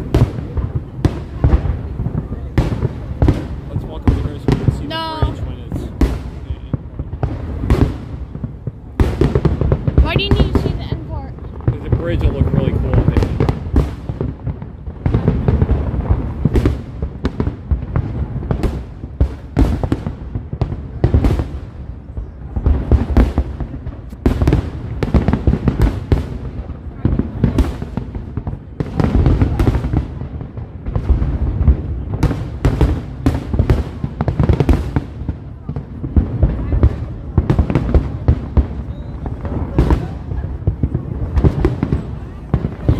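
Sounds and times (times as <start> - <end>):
deep rumble of shells bursting: 0.0 - 42.9
fireworks bangs and crackles: 0.0 - 42.9.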